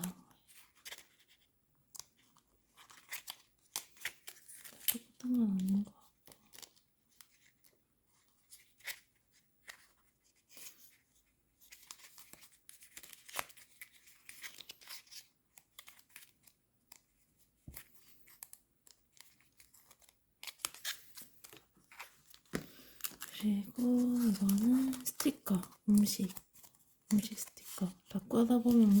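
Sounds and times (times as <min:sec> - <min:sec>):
sticker sheets crinkling: 0:00.0 - 0:29.0.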